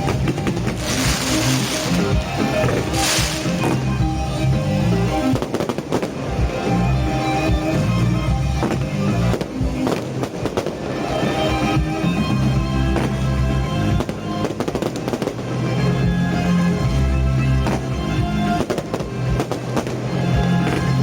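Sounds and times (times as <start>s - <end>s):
fireworks bangs and crackles: 0.0s - 21.0s
loud music with bass line: 0.0s - 21.0s.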